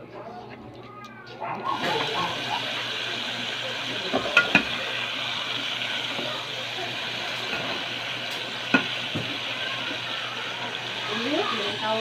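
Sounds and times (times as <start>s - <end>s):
frying in hot oil sizzle: 1.7s - 12.0s.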